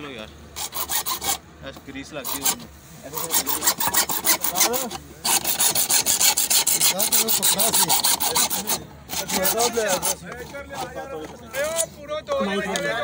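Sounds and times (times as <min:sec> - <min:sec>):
hacksaw cutting plastic pipe: 0:00.6 - 0:01.4, 0:02.2 - 0:11.9.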